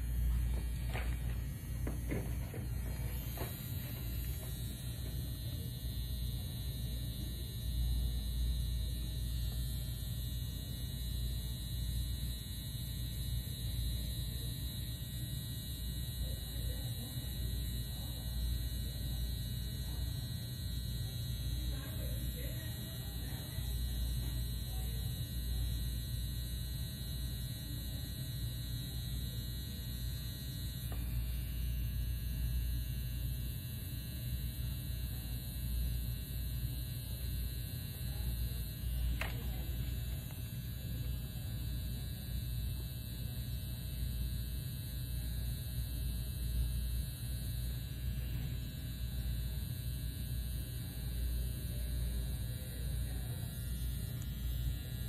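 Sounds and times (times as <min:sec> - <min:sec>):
laser machine hum: 0:00.0 - 0:55.0.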